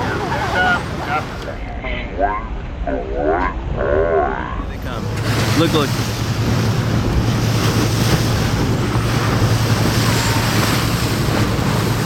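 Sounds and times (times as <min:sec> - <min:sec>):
boat engine droning: 0:00.0 - 0:12.0
water rushing along hull: 0:00.0 - 0:12.0
wind buffeting microphone: 0:00.0 - 0:12.0.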